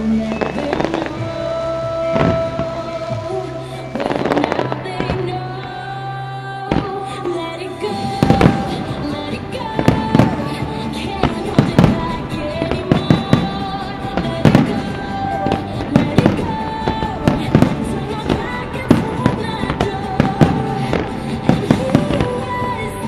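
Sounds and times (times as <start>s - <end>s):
fireworks bursting: 0.0s - 23.0s
music playing: 0.0s - 23.0s.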